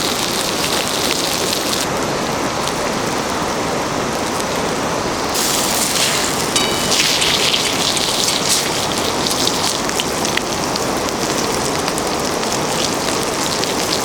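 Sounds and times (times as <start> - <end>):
fat crackling and popping: 0.0 - 14.0
meat sizzling over campfire: 0.0 - 14.0.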